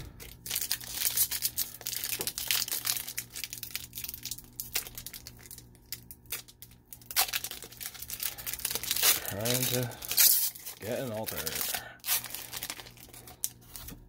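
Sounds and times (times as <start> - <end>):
foil wrapper tearing and crinkling: 0.2 - 14.0.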